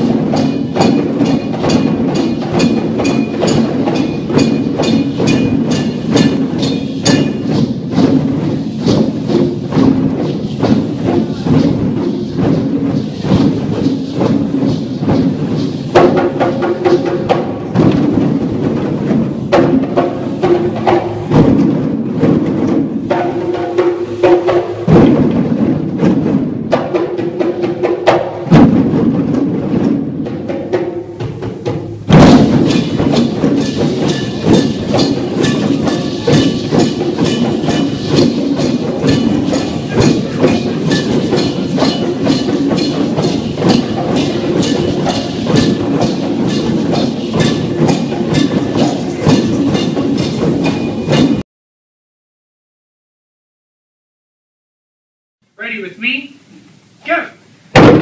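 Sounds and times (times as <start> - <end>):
drum circle playing: 0.0 - 51.4.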